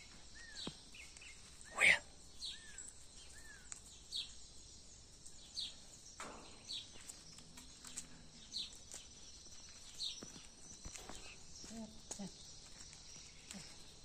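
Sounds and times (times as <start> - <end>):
faint rural background noise: 0.0 - 14.0
small birds chirping: 0.0 - 14.0.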